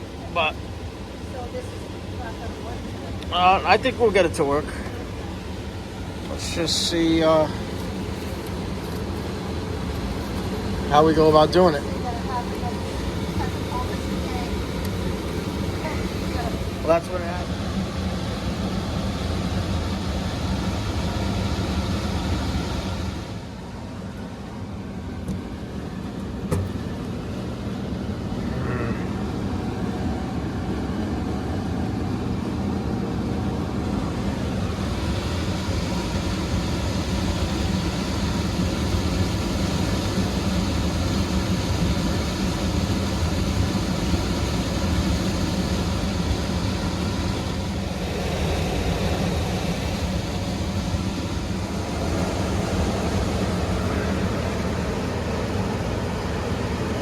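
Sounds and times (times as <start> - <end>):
furnace motor humming: 0.0 - 57.0.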